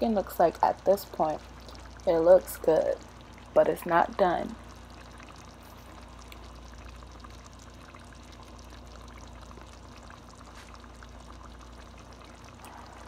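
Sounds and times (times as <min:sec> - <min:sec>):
stew bubbling with small pops: 0:00.0 - 0:13.0
low hum: 0:01.2 - 0:13.0.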